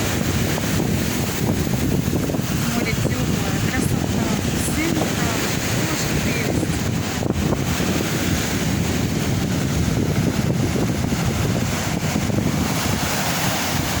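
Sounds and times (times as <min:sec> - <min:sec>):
sea waves washing on beach: 0:00.0 - 0:14.0
wind buffeting microphone: 0:00.0 - 0:14.0.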